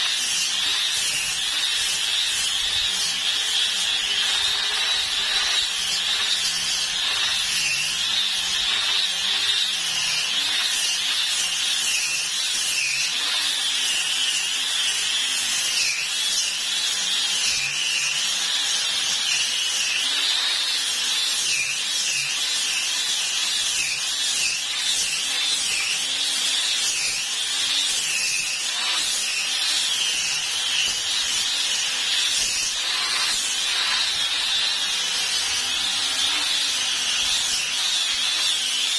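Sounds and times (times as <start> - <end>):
electric disc sander on wood: 0.0 - 38.9.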